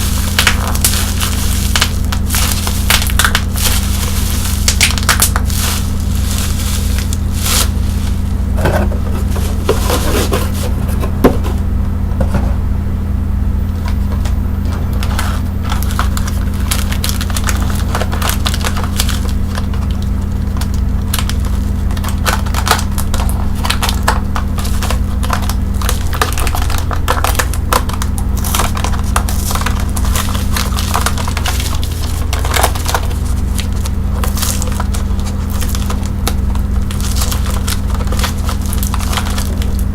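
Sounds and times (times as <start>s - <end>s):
bubble wrap pops: 0.0s - 10.7s, 15.7s - 39.9s
plastic packaging crinkling: 0.0s - 11.4s, 14.0s - 39.9s
steady low hum: 0.0s - 39.9s.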